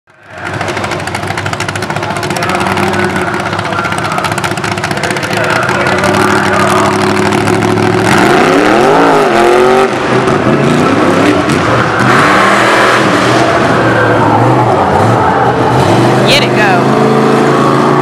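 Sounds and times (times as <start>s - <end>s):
race truck engine running hard: 0.1s - 18.0s.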